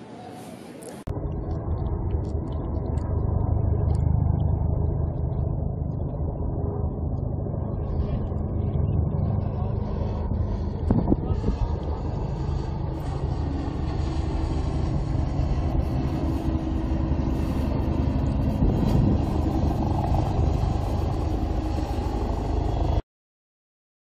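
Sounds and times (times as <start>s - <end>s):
boat engine humming: 0.0s - 23.0s
wind buffeting microphone: 1.1s - 23.0s.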